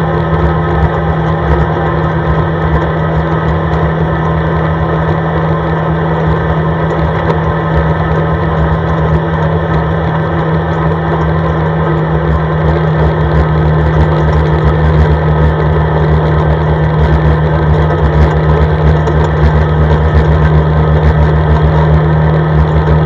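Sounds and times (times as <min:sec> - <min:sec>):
atv engine droning: 0:00.0 - 0:23.0.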